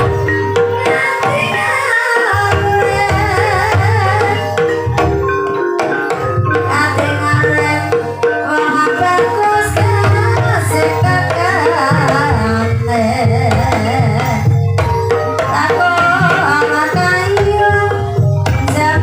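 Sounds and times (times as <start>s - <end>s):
person singing: 0.0s - 4.9s, 6.5s - 19.0s
hand drums: 0.0s - 19.0s
tuned mallet percussion: 0.0s - 19.0s.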